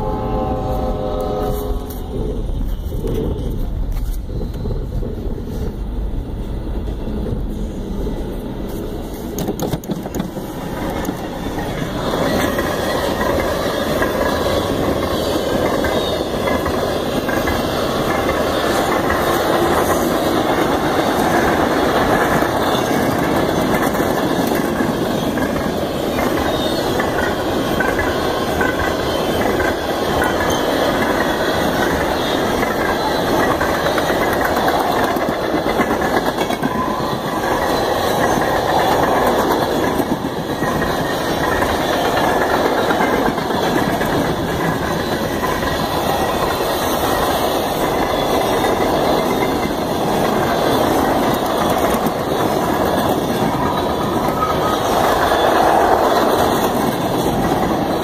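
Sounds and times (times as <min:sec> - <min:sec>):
freight train wheels clacking: 0:00.0 - 0:58.0.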